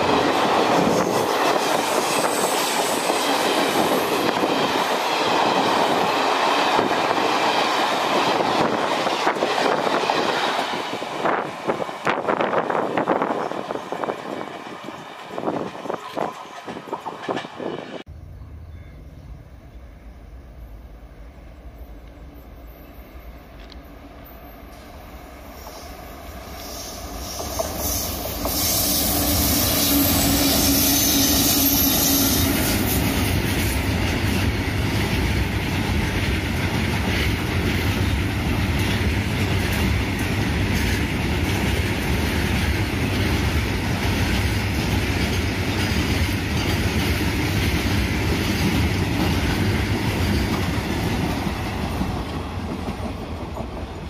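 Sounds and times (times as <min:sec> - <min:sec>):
train wheels rolling on rails: 0:00.0 - 0:18.1, 0:20.6 - 0:54.0.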